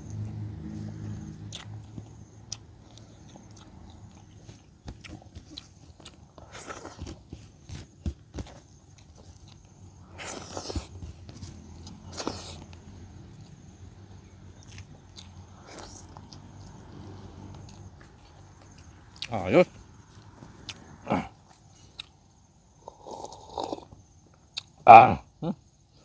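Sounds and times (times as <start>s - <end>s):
person chewing and crunching: 0.0s - 19.4s, 20.1s - 22.2s, 22.8s - 24.8s.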